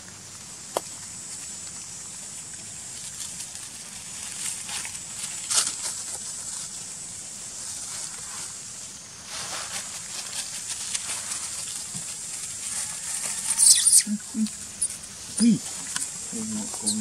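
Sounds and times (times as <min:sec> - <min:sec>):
dry leaves rustling and crackling: 0:00.0 - 0:17.0
high insect drone: 0:00.1 - 0:17.0.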